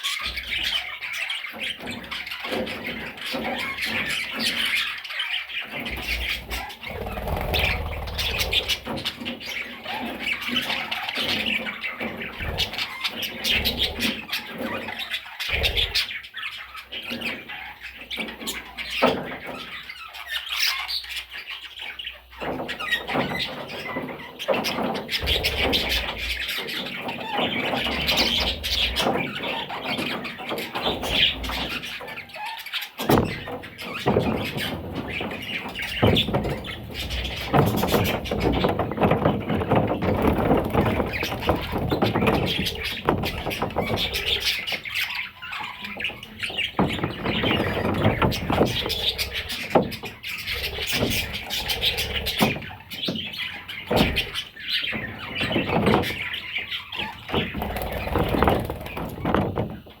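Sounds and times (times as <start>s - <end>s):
parrots chattering and squawking: 0.0s - 59.9s.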